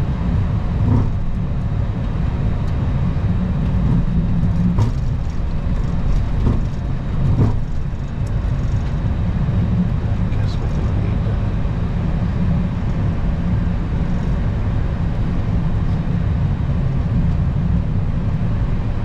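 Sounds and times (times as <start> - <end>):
low cockpit rumble: 0.0 - 19.0.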